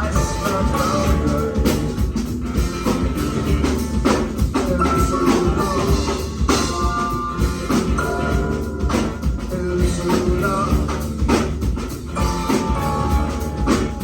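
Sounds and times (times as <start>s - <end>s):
drum kit hits: 0.0s - 14.0s
live band playing: 0.0s - 14.0s.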